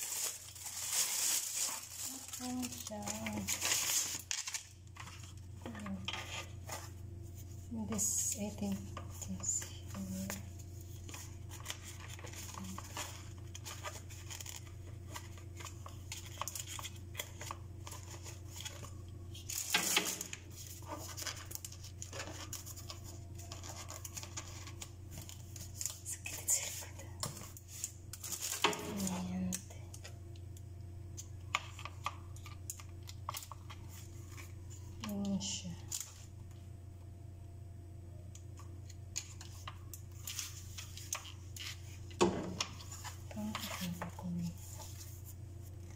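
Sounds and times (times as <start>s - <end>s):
plastic wrapping rustling: 0.0s - 36.6s, 38.5s - 45.9s
steady low hum: 0.0s - 45.9s.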